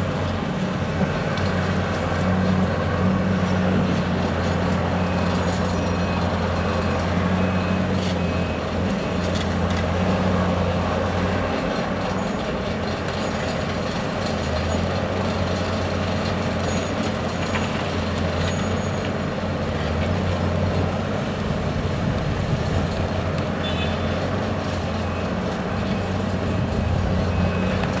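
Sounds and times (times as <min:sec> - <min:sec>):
heavy diesel engines running: 0:00.0 - 0:28.0.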